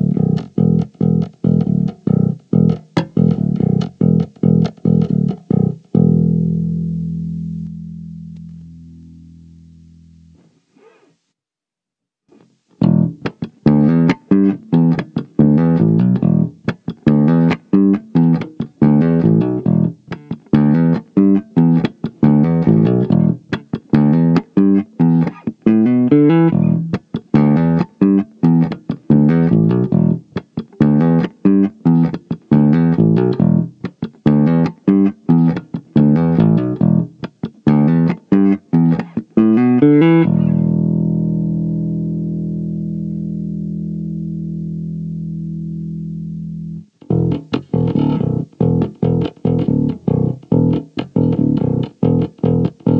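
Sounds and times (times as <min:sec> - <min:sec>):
electric bass plucked notes: 0:00.0 - 0:10.4, 0:12.8 - 0:52.9.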